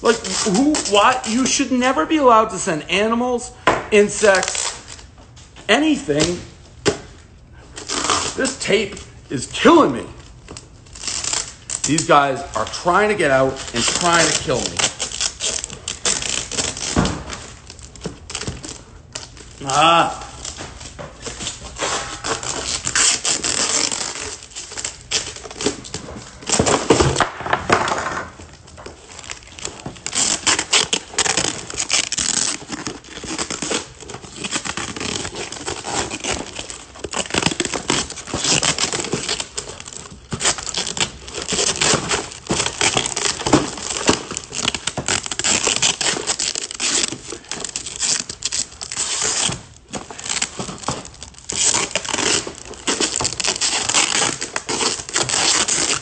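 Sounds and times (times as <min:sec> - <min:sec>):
packing tape ripping: 0:00.0 - 0:02.4, 0:03.9 - 0:05.1, 0:05.8 - 0:07.1, 0:07.7 - 0:56.0
cardboard box crinkling: 0:11.0 - 0:56.0.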